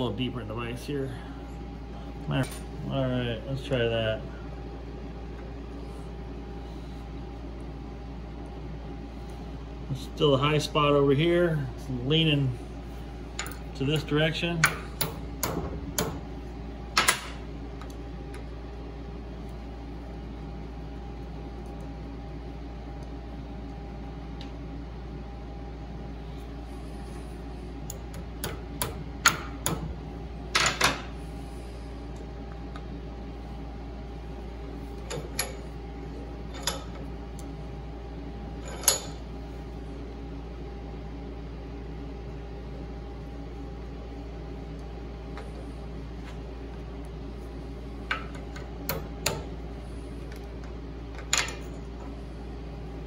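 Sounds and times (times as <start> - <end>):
low shop hum: 0.0 - 53.0.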